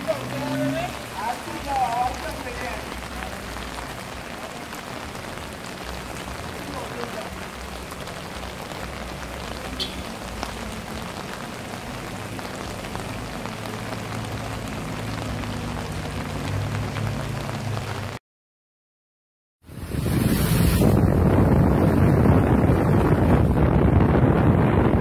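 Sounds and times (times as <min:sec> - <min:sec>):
steady rain falling: 0:00.0 - 0:18.2, 0:20.0 - 0:25.0.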